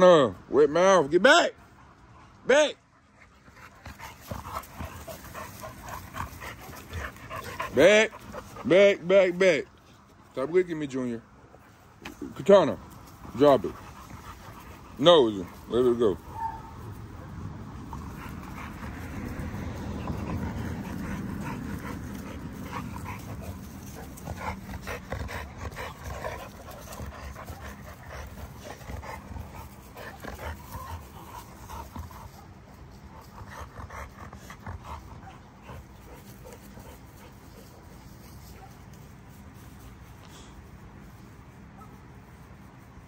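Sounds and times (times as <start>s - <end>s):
dogs panting: 1.6s - 41.9s.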